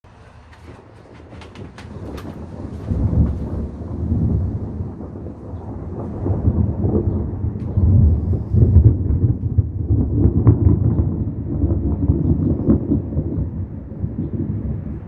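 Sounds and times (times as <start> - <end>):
thunder rumbling: 0.1 - 15.0.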